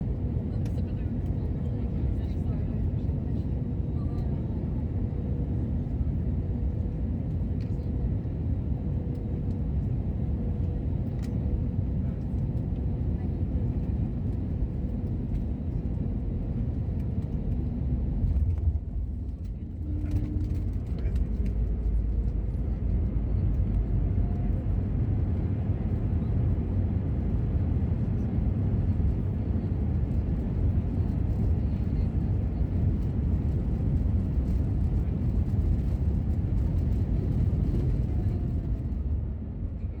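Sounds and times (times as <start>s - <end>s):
jet engines low rumble: 0.0s - 40.0s.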